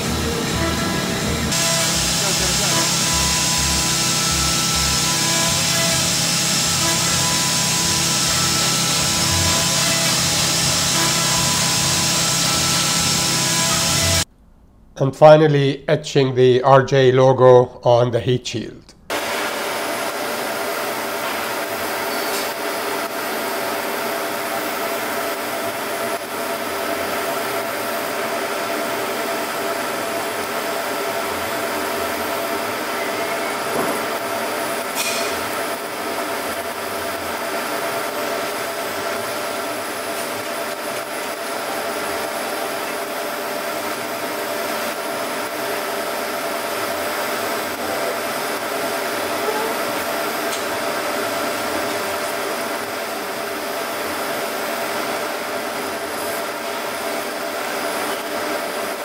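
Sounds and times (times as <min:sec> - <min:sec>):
laser etching machine whirring: 0:00.0 - 0:14.3, 0:19.1 - 0:59.0.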